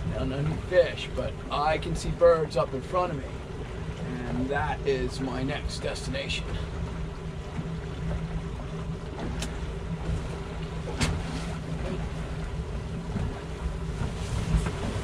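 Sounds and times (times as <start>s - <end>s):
outboard motors running: 0.0s - 15.0s
water noise: 0.0s - 15.0s
wind: 0.0s - 15.0s.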